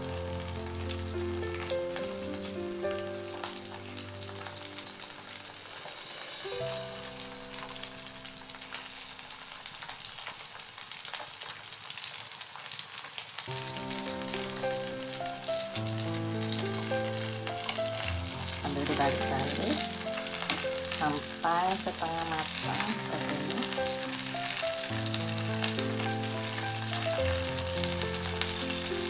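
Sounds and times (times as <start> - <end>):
prawns sizzling in oil: 0.0 - 29.0.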